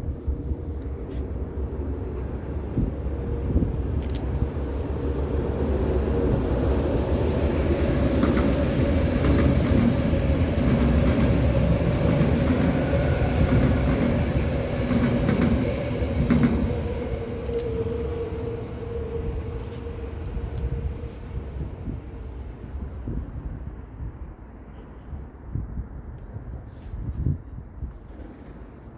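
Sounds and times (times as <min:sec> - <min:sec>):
train wheels rumbling on rails: 0:00.0 - 0:24.2, 0:25.9 - 0:28.9
train hum: 0:00.0 - 0:28.9.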